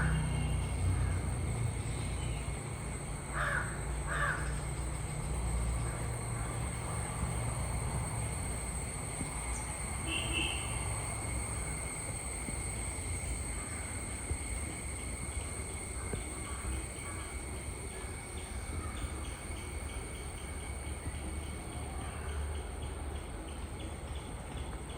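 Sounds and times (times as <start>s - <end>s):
insects droning: 0.0s - 24.9s.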